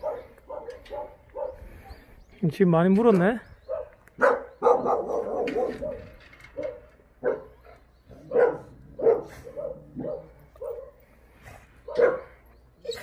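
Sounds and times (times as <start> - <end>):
dogs barking: 0.0 - 1.7, 3.6 - 13.0.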